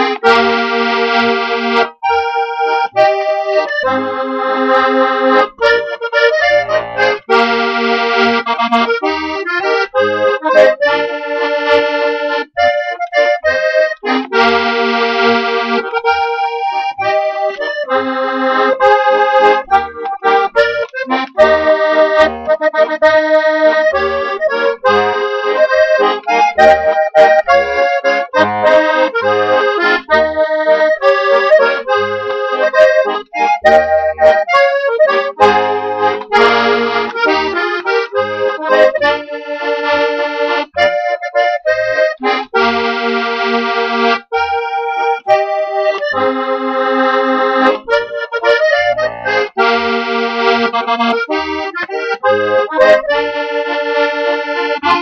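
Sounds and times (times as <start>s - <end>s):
button accordion playing a waltz: 0.0s - 55.0s.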